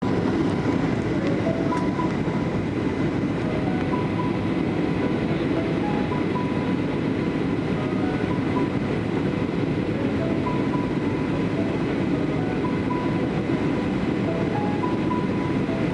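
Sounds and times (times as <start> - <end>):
airliner cabin rumble: 0.0 - 15.9.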